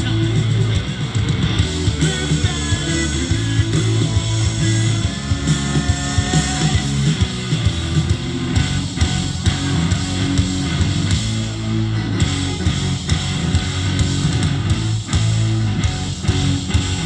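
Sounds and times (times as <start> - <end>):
distorted electric guitar: 0.0 - 17.0
live rock band: 0.0 - 17.0.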